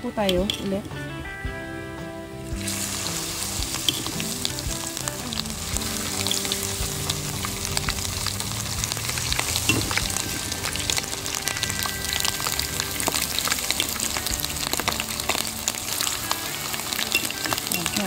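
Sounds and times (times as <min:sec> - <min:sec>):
food sizzling in hot oil: 0:02.4 - 0:18.0.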